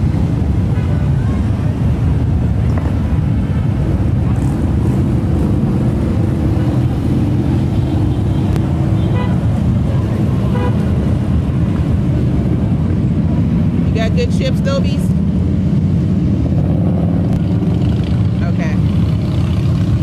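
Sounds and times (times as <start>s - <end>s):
motorcycles riding past: 0.0s - 20.0s.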